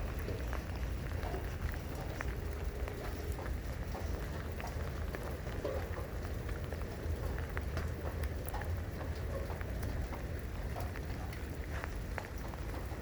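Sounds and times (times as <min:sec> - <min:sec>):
raindrops ticking: 0:00.0 - 0:13.0
steady low rumble: 0:00.0 - 0:13.0.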